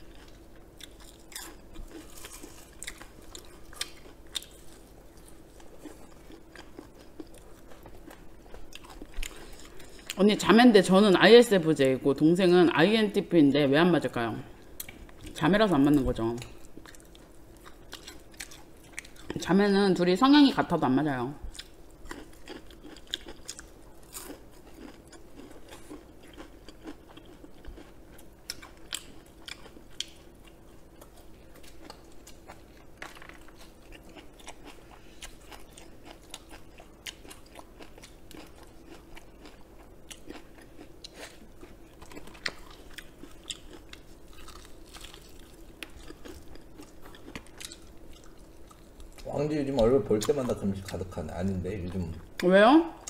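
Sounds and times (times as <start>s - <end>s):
chewing crispy fried chicken: 0.0s - 10.2s, 14.6s - 19.6s, 21.4s - 52.5s
faint steady hum: 0.0s - 53.0s.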